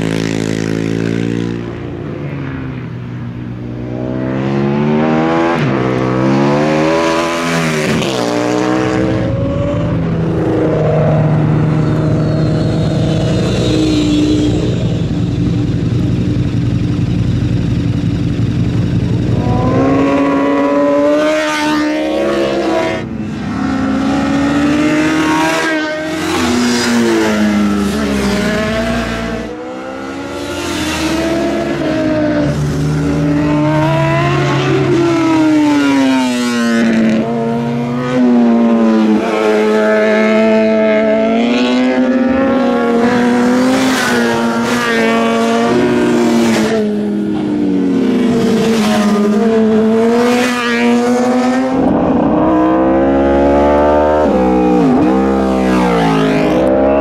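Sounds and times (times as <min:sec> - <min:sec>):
motorcycles accelerating hard: 0:00.0 - 0:57.0.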